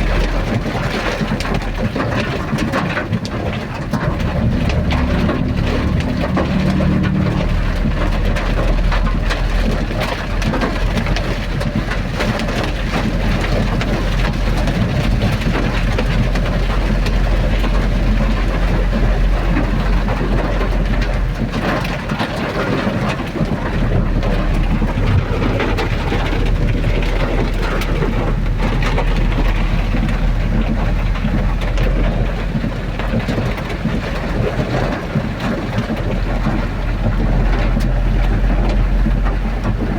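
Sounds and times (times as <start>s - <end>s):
rain: 0.0s - 39.9s
vehicle running rumble: 0.0s - 39.9s.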